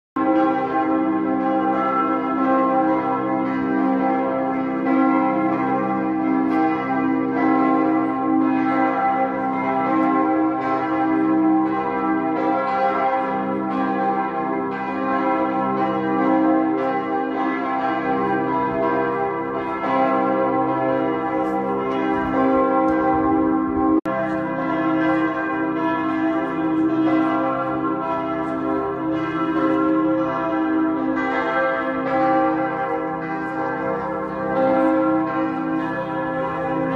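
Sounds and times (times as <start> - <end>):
church bells pealing: 0.2 - 36.9.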